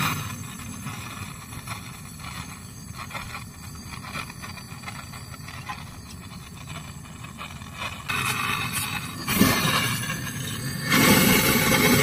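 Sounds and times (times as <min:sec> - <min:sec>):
torch flame rushing: 0:00.0 - 0:12.0.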